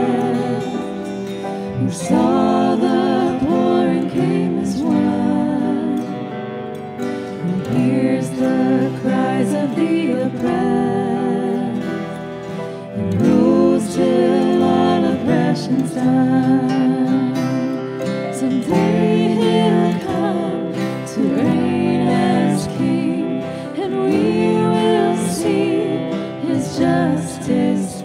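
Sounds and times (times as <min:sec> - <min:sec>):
strummed acoustic guitars: 0:00.0 - 0:28.0
women singing: 0:00.0 - 0:28.0.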